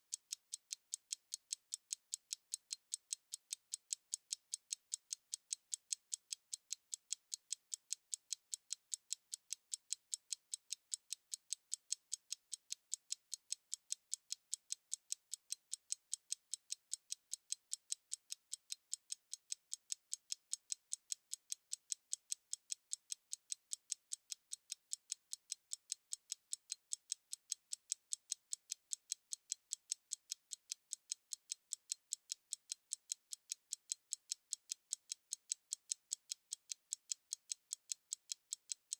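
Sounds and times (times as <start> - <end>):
stopwatch ticking fast: 0.1 - 38.9.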